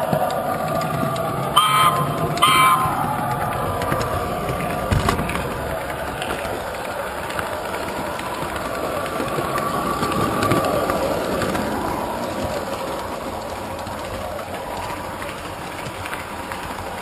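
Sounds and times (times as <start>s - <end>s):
clicks over rail joints: 0.0s - 17.0s
model train wheels rattling: 0.0s - 17.0s
train motor whir: 0.0s - 17.0s.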